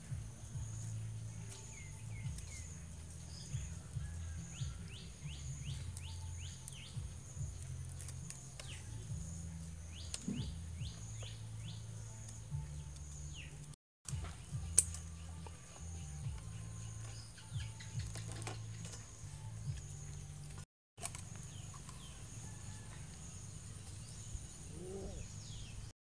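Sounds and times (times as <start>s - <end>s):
bird chirping: 0.0s - 25.9s.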